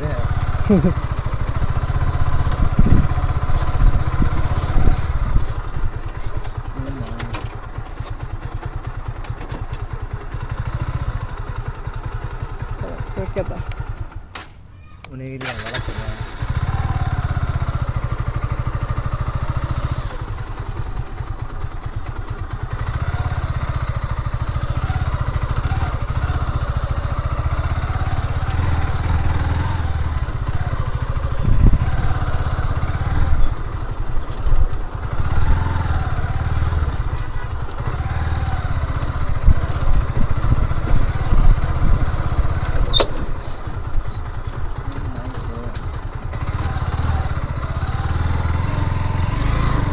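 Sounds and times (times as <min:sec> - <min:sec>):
motorcycle engine rumble: 0:00.0 - 0:49.9.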